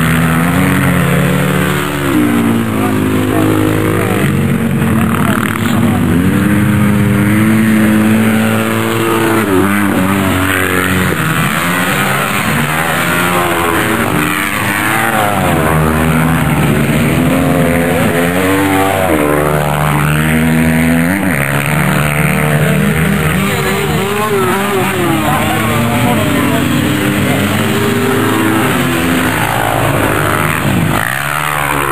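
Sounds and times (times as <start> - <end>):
racing engine revving: 0.0 - 31.9.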